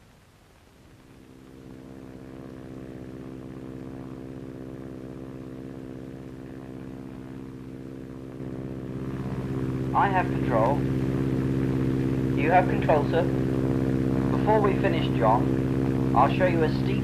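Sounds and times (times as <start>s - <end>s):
piston aircraft engine droning: 0.2s - 17.0s.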